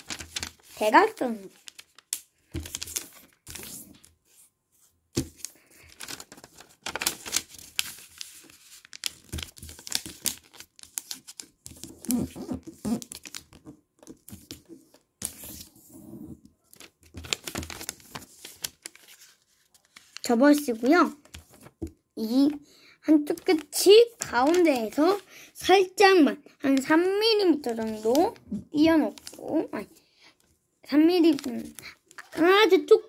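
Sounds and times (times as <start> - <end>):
paper rustling and crinkling: 0.0 - 15.9, 16.6 - 22.0, 23.2 - 25.2, 27.6 - 29.9, 31.2 - 32.5.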